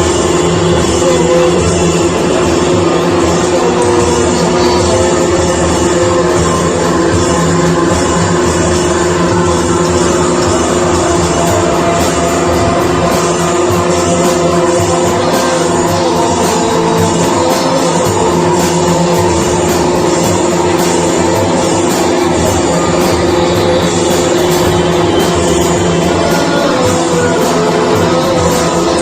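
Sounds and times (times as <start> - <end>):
live band playing psychedelic jam: 0.0 - 29.0
steady droning tones: 0.0 - 29.0.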